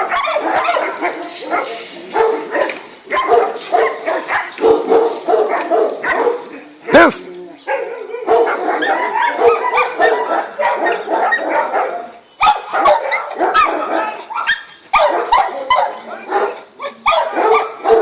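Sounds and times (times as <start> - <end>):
dog barking and yipping: 0.0 - 18.0.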